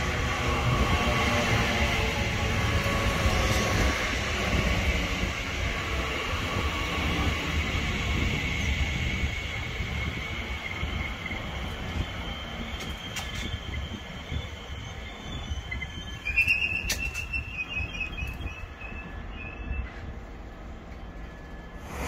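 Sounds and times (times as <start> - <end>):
train wheels rumbling on rails: 0.0 - 22.0
high squeal: 0.5 - 20.2.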